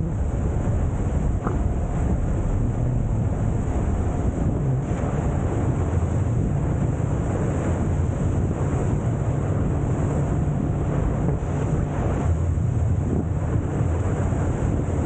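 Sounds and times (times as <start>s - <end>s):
outboard motor droning: 0.0s - 15.0s
water rushing from hull: 0.0s - 15.0s
wind buffeting microphone: 0.0s - 15.0s.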